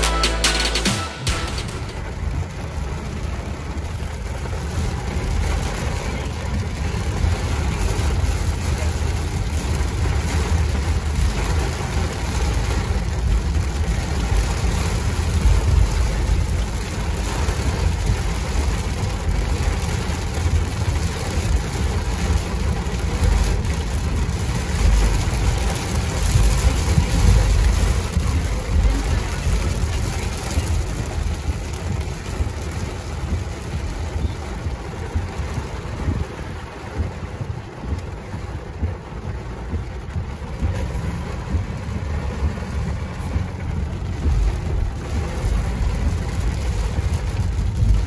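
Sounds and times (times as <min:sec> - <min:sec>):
car driving on wet road: 0:00.0 - 0:48.0
rain hissing on car: 0:00.0 - 0:48.0.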